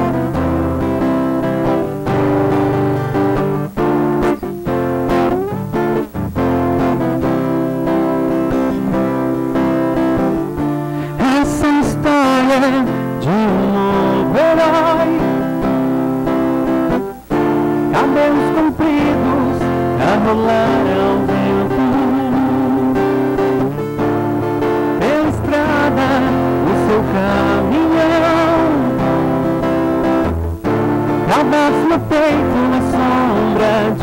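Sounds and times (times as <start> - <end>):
acoustic guitar strumming: 0.0 - 34.0
person singing slow song: 0.0 - 34.0.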